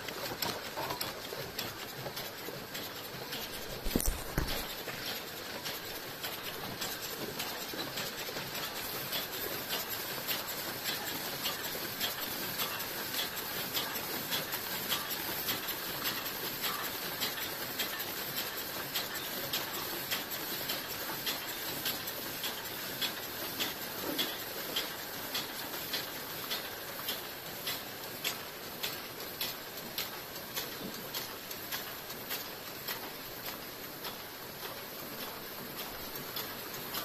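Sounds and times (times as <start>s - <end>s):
machine clicks: 0.0s - 37.0s.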